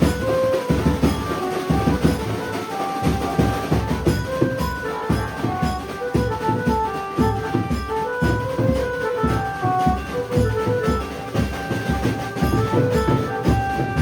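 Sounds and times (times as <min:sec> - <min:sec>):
drums and tambourine beat: 0:00.0 - 0:14.0
lead instrument melody: 0:00.0 - 0:14.0.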